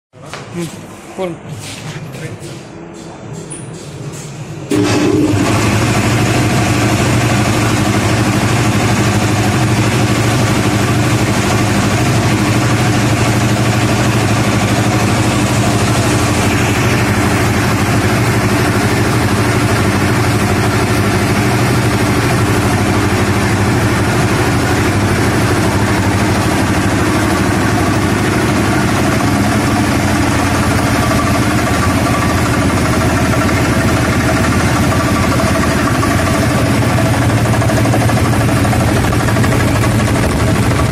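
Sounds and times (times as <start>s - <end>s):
air compressor droning: 0.2s - 40.9s.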